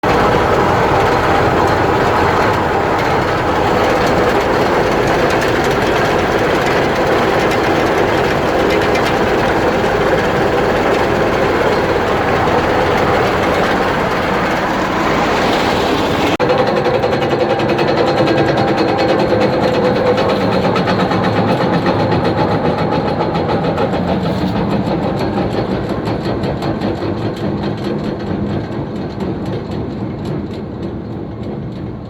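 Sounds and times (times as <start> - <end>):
drivetrain knocking: 0.0 - 32.0
vehicle engine drone: 0.0 - 32.0.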